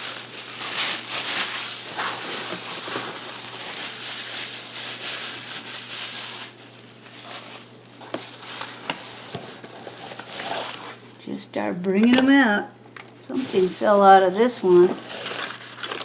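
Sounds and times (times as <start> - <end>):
packaging rustling and crinkling: 0.0 - 11.1, 13.3 - 16.0.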